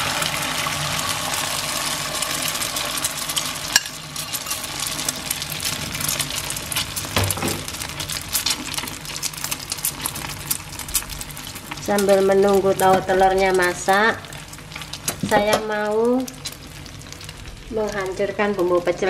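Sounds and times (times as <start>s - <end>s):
food sizzling and crackling in oil: 0.0s - 19.0s.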